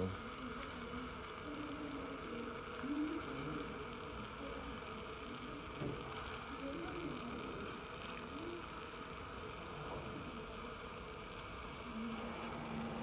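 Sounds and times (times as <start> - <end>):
steady low hum: 0.0 - 13.0
suction aspirator hissing: 0.0 - 13.0.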